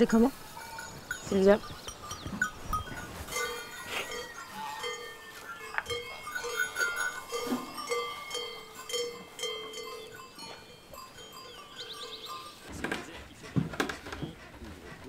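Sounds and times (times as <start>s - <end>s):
goat bells clinking: 0.0s - 13.6s.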